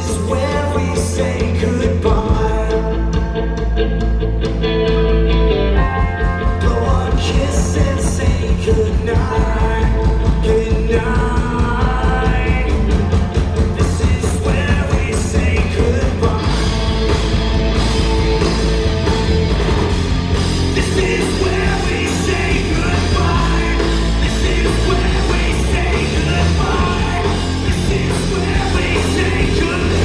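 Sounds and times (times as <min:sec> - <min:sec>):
bass guitar: 0:00.0 - 0:30.0
drums: 0:00.0 - 0:30.0
electric guitars: 0:00.0 - 0:30.0.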